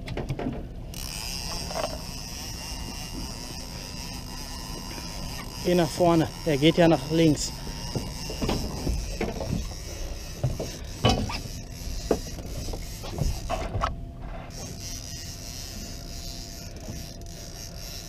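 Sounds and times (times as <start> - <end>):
fishing reel clicking: 0.9 - 13.9, 14.5 - 18.0.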